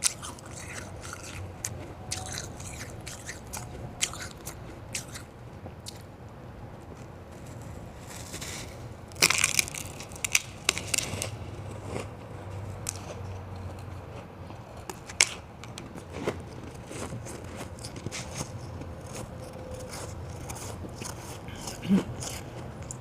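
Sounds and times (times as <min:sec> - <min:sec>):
ice crunched between teeth: 0:00.0 - 0:06.1, 0:07.5 - 0:12.2, 0:12.8 - 0:23.0.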